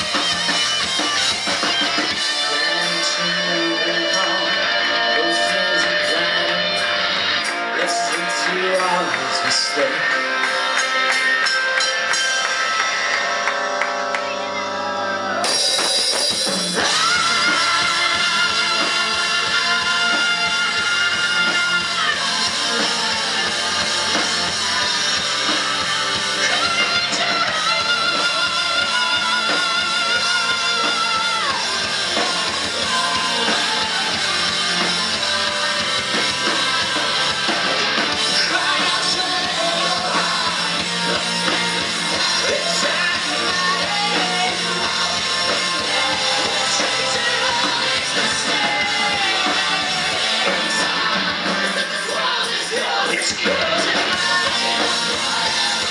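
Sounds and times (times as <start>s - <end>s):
person singing: 0.0s - 11.6s, 14.9s - 55.9s
drum kit: 0.0s - 55.9s
electric guitars: 0.0s - 55.9s.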